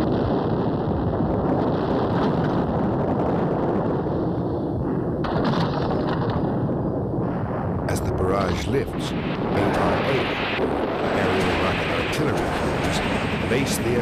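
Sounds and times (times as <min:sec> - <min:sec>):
artillery and gunfire: 0:00.0 - 0:14.0.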